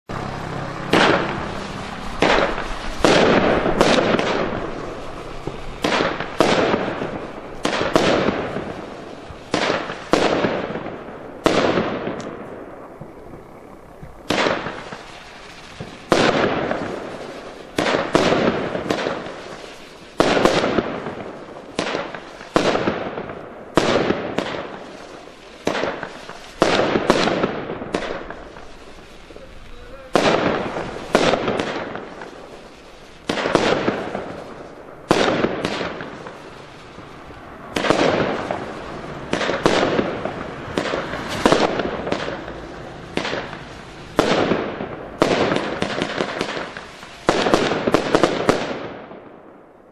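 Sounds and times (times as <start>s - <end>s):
firework cake shots: 0.1s - 49.6s.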